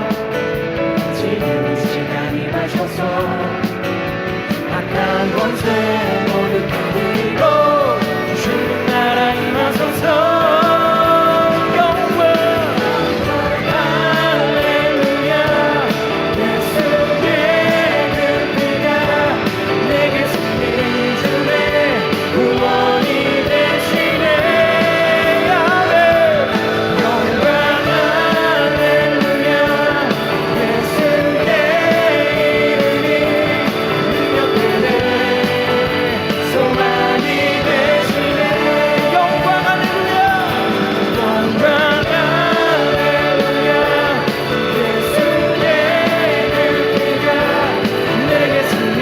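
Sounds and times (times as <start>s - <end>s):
band playing worship music: 0.0s - 49.0s
person singing: 0.0s - 49.0s.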